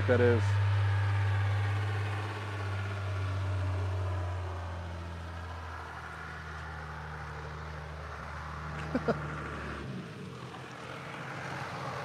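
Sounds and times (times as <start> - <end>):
diesel engine hum: 0.0 - 12.0.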